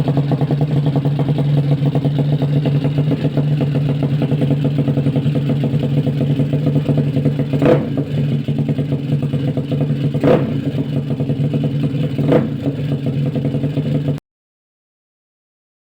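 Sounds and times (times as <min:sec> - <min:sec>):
scooter engine idling: 0:00.0 - 0:14.2.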